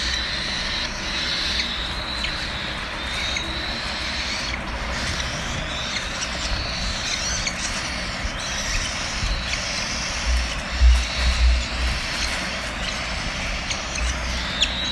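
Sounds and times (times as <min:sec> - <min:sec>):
chicks begging calls: 0:00.0 - 0:14.9.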